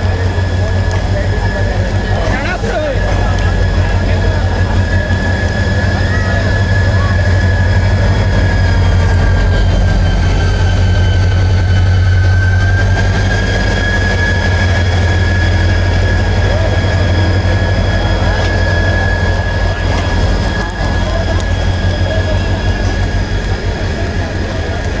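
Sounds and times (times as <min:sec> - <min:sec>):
high-pitched whine: 0:00.0 - 0:25.0
locomotive engine idling hum: 0:00.0 - 0:25.0.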